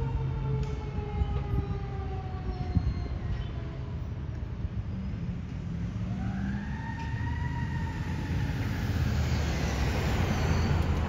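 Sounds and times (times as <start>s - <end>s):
distant siren wailing: 0.0s - 4.4s, 5.9s - 11.0s
engine and traffic rumble: 0.0s - 11.0s.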